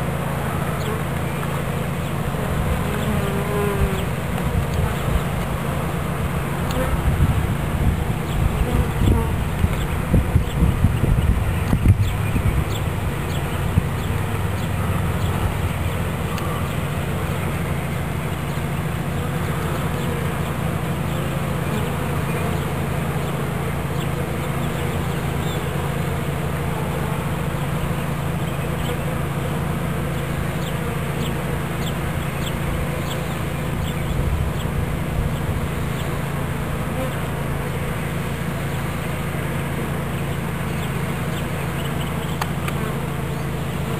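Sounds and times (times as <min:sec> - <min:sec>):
honey bees buzzing: 0:00.0 - 0:43.9.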